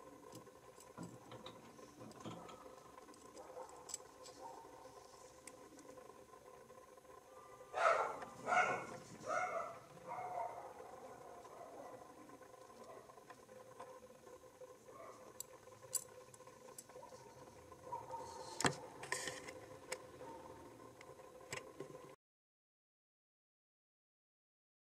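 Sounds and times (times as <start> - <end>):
faint steady hum: 0.0 - 22.2.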